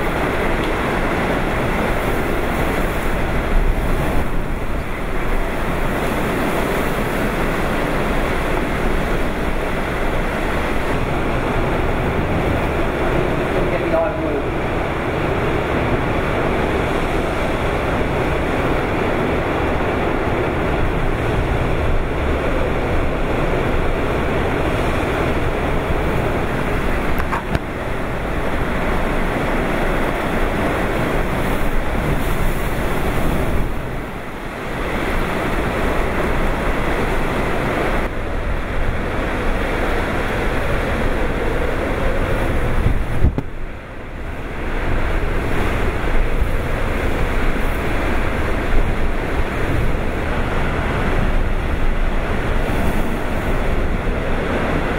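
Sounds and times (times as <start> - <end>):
driving rain: 0.0 - 54.9
strong wind: 0.0 - 54.9.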